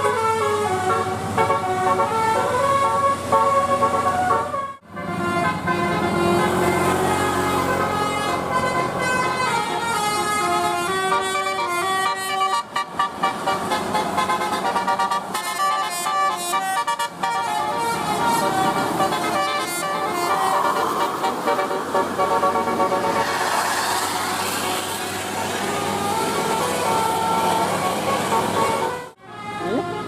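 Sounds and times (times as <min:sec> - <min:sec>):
tuned air horns playing a tune: 0:00.0 - 0:30.0.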